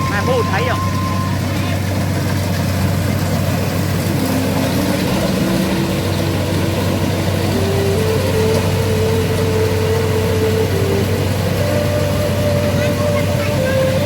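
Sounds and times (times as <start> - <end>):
farm machine engine humming: 0.0 - 14.0.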